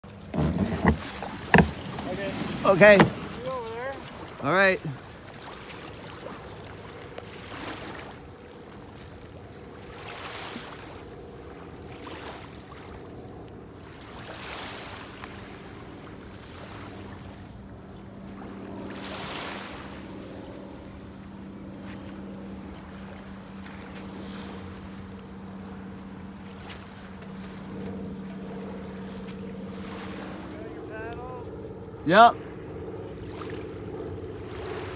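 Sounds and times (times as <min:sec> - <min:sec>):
small waves washing on beach: 0:00.0 - 0:34.9.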